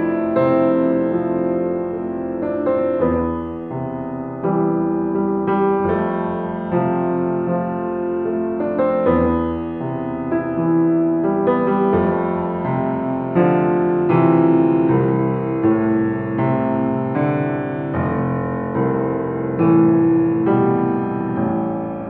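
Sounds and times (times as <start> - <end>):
piano notes and chords: 0.0 - 22.0.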